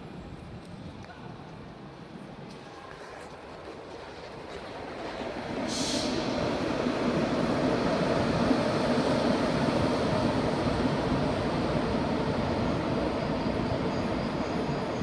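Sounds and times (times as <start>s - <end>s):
train rolling slowly: 0.0s - 15.0s.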